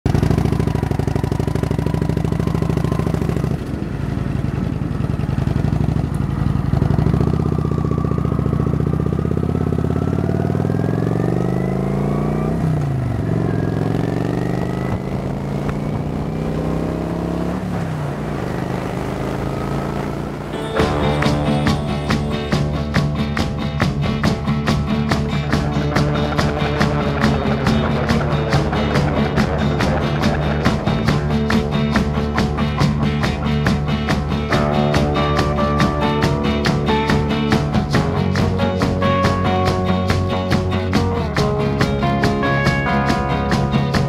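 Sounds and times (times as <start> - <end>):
motorcycle engine accelerating: 0.1 - 44.0.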